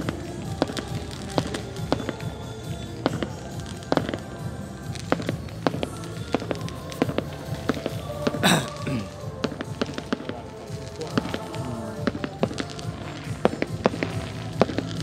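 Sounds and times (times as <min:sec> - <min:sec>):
distant fireworks popping and banging: 0:00.0 - 0:15.0.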